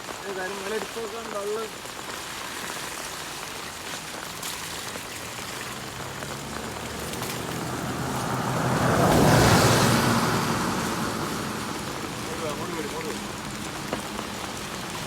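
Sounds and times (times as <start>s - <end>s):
heavy rain falling: 0.0s - 15.0s
vehicle passing on wet road: 0.0s - 15.0s.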